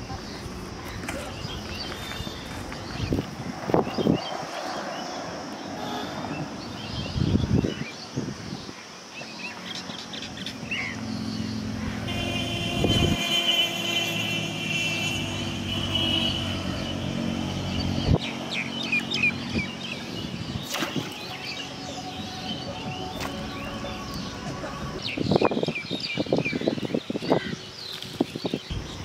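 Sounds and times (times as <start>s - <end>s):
small birds chirping: 0.0s - 12.0s, 16.2s - 29.0s.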